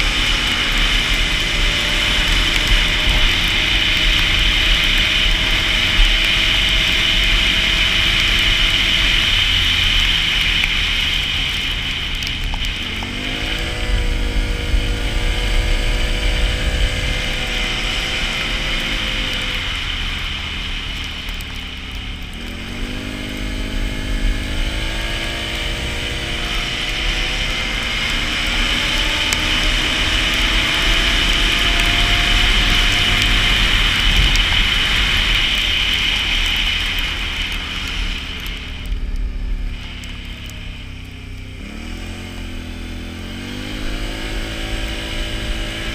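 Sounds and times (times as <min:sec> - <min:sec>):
engine revving: 0:00.0 - 0:45.9
wind rumble on microphone: 0:00.0 - 0:45.9.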